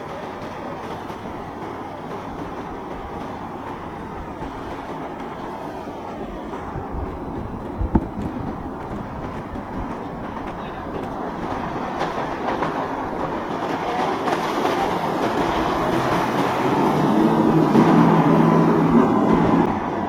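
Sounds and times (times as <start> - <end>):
boat engines and water rumble: 0.0 - 20.0.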